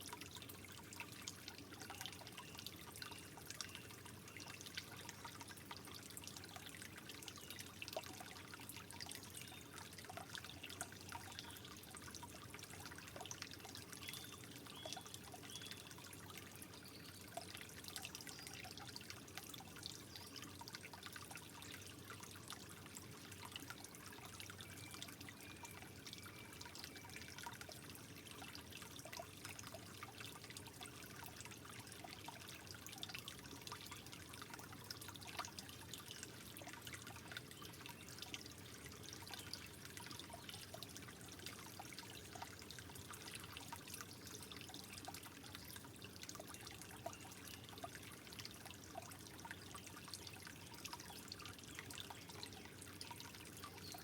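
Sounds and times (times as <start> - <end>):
water drips and splashes: 0.0 - 54.0
water trickling: 0.0 - 54.0.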